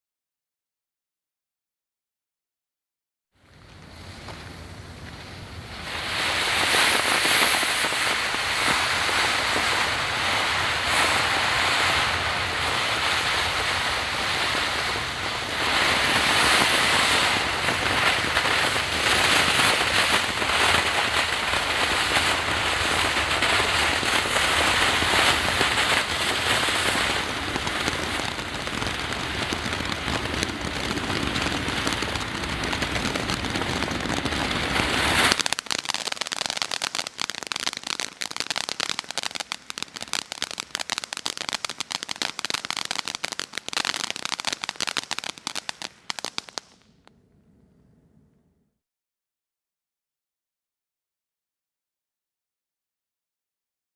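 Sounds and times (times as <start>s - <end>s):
firework fountain spray hiss: 3.4s - 47.0s
firework crackling: 3.4s - 47.1s.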